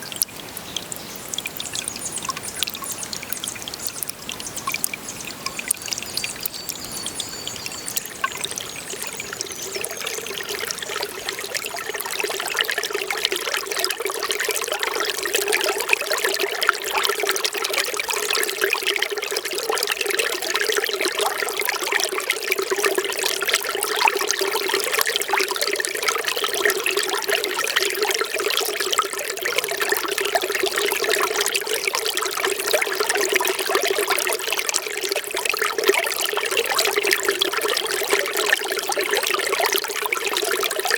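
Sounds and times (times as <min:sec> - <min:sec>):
water trickling and pouring: 0:00.0 - 0:40.9.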